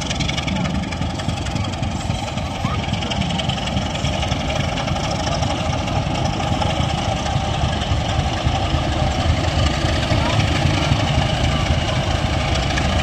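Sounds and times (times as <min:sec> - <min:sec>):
diesel locomotive engine idling: 0:00.0 - 0:13.0.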